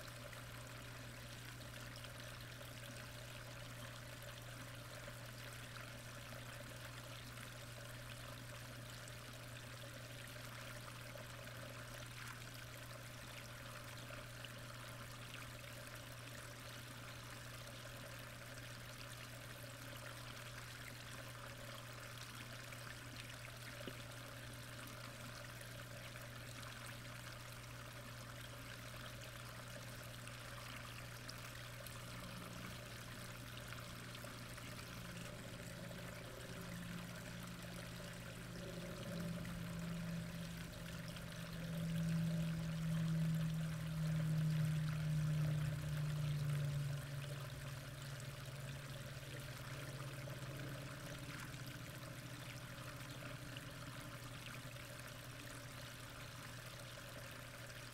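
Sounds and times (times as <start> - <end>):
constant low hum: 0.0 - 57.9
flowing water underwater: 0.0 - 57.9.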